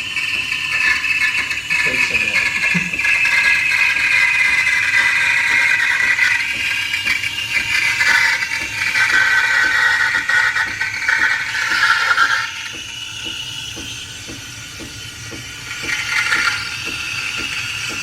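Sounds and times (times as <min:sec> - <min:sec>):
steam wand frothing milk: 0:00.0 - 0:18.0.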